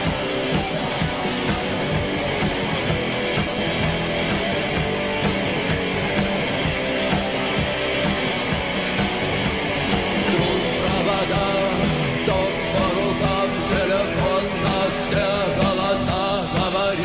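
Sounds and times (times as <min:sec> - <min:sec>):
electric guitar: 0:00.0 - 0:17.0
steady drum beat: 0:00.0 - 0:17.0.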